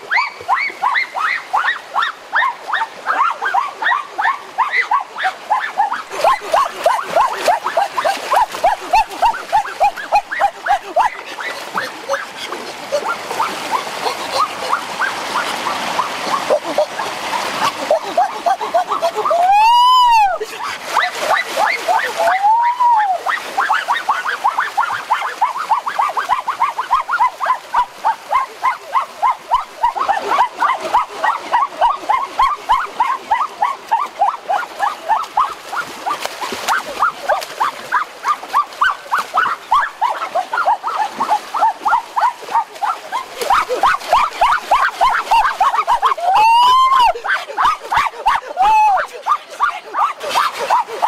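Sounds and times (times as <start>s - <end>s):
animals yelping calls: 0.0s - 51.0s
water splashing and rushing: 0.0s - 51.0s.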